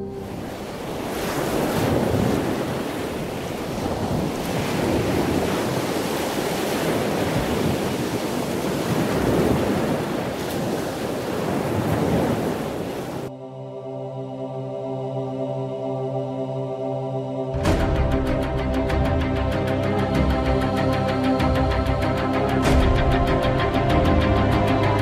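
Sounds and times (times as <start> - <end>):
rushing surf-like water: 0.0 - 13.3, 17.6 - 25.0.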